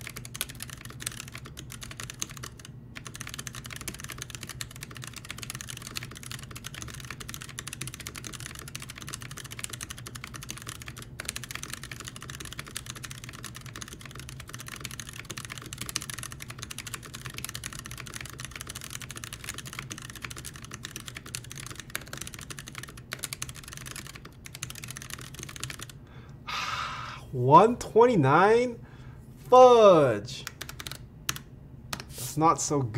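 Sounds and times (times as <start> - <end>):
typing on mechanical keyboard: 0.0 - 26.0, 30.4 - 32.1.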